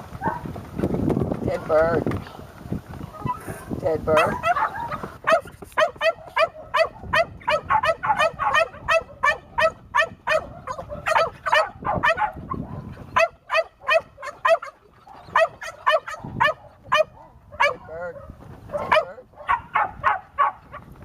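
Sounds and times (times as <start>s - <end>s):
puppy barking: 0.2s - 0.4s, 4.1s - 20.9s.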